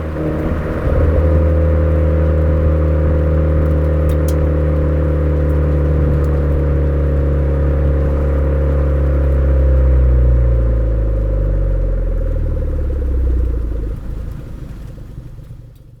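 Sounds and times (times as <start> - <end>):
car exhaust note: 0.0 - 14.4.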